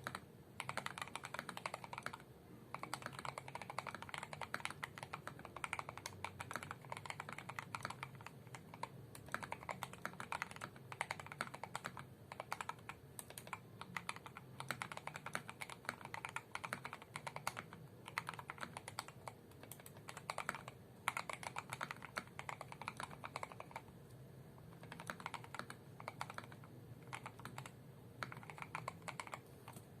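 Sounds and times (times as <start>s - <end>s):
mechanical keyboard typing: 0.0s - 24.0s, 24.6s - 30.0s.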